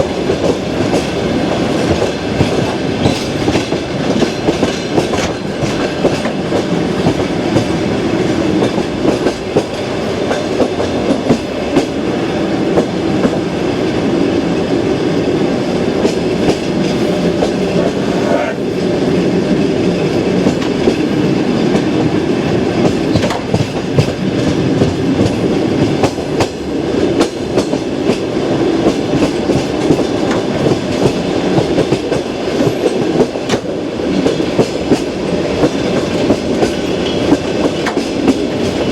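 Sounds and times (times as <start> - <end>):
train running rumble: 0.0 - 38.9
train wheels clicking over rail joints: 0.0 - 38.9.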